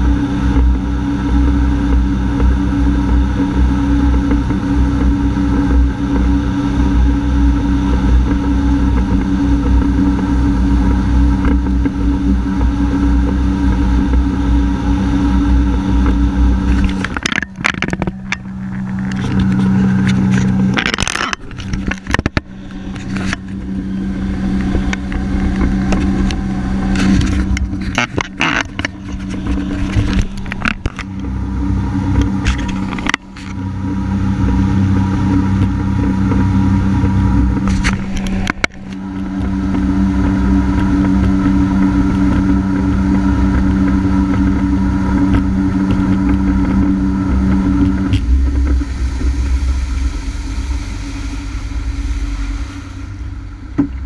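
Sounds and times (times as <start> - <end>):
hull and wind rumble: 0.0 - 54.0
jet ski engine high pitch: 0.0 - 54.0.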